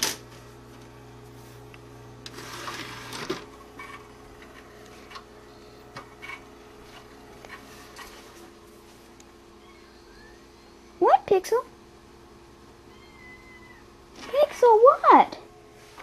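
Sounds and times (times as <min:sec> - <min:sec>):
computer fan whir and hum: 0:00.0 - 0:16.0.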